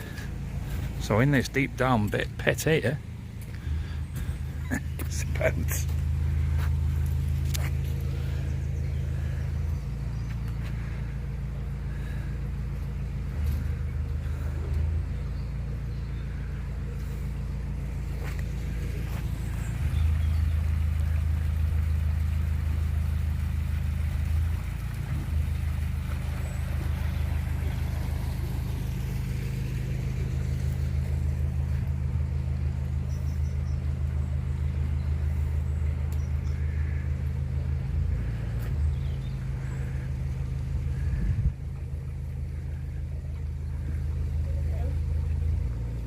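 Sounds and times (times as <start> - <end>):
diesel engine ticking over: 0.0 - 46.0.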